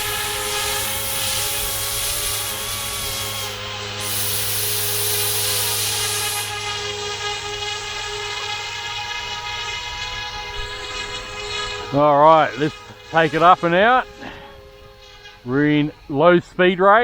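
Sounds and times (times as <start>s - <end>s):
rc helicopter whine: 0.0s - 17.0s.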